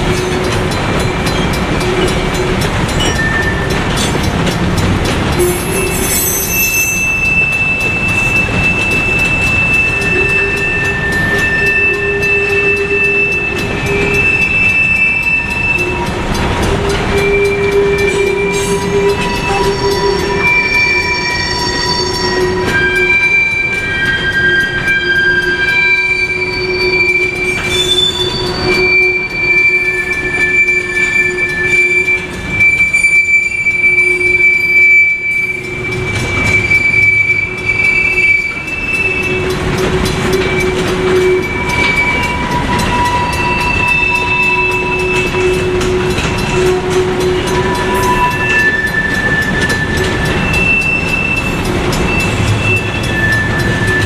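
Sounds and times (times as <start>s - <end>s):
crossing bell ringing: 0.0s - 54.0s
train rumble: 0.0s - 54.0s
train wheels squealing: 0.0s - 54.0s.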